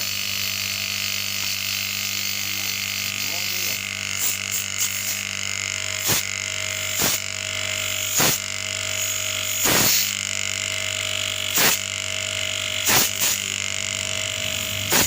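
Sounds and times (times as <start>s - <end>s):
refrigerator compressor humming: 0.0s - 15.0s.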